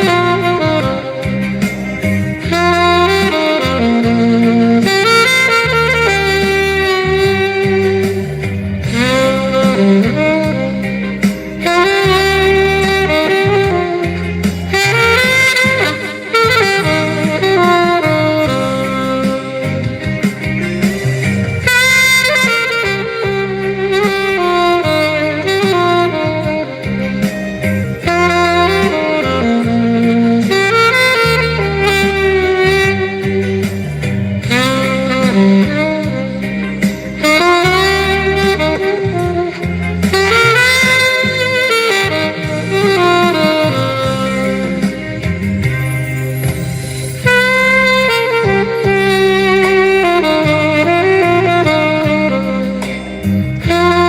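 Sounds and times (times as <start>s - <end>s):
backing accompaniment with bass: 0.0s - 54.0s
saxophone slow melody: 0.0s - 54.0s.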